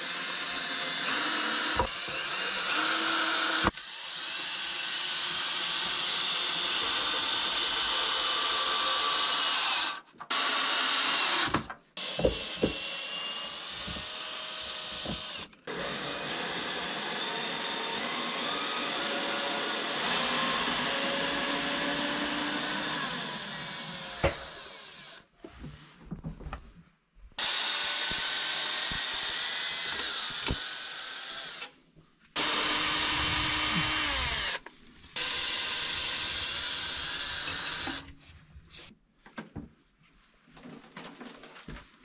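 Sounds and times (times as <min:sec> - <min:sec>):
cordless drill driving screws: 0:00.0 - 0:25.2, 0:27.4 - 0:31.7, 0:32.4 - 0:38.1.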